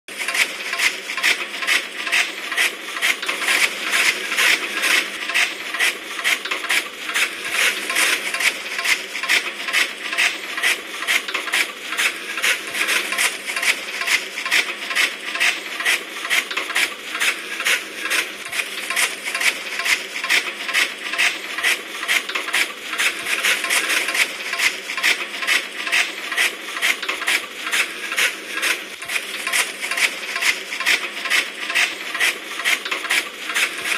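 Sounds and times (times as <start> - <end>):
machine clacking rhythmically: 0.1 - 33.9.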